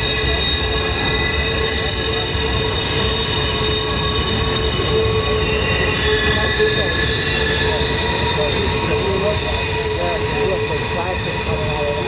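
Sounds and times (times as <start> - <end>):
rumble of train wheels: 0.0 - 12.0
train wheels squealing on rails: 0.0 - 12.0.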